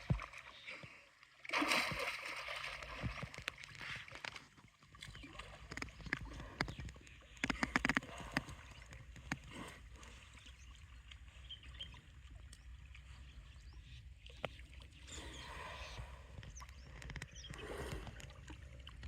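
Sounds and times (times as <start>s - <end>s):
animals splashing in water: 0.0s - 19.0s.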